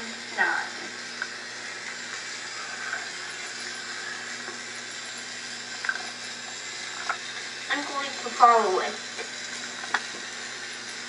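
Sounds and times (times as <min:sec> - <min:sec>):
toy electric motor whirring: 0:00.0 - 0:11.0.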